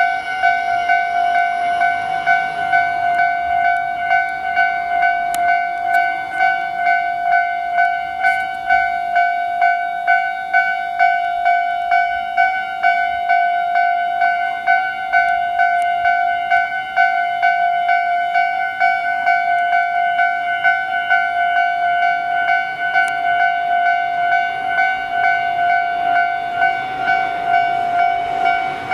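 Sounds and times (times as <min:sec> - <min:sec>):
level crossing warning bell: 0:00.0 - 0:28.9.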